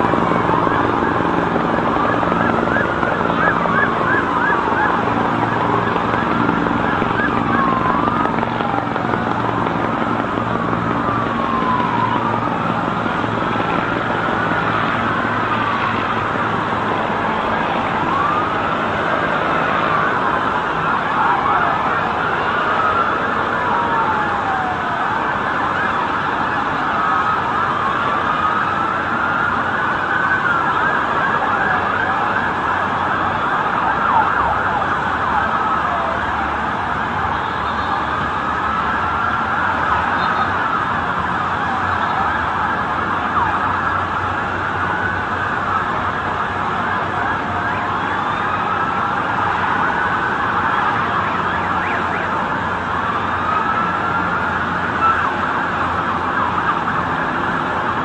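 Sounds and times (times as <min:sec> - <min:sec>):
emergency sirens wailing: 0:00.0 - 0:58.0
street noise: 0:00.0 - 0:58.0.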